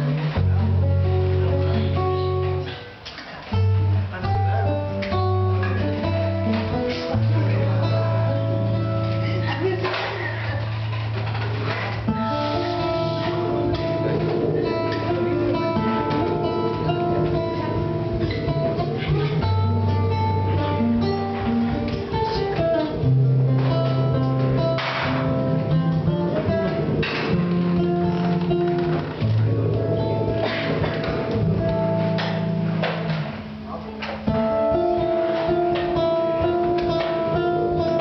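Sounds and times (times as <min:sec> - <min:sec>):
held bass notes: 0:00.0 - 0:02.8, 0:03.4 - 0:38.0
acoustic guitar: 0:00.0 - 0:38.0.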